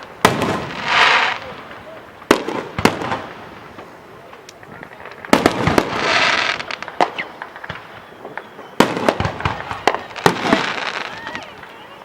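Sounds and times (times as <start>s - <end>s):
fireworks crackling pops: 0.0s - 12.0s
fireworks loud bangs: 0.0s - 12.0s.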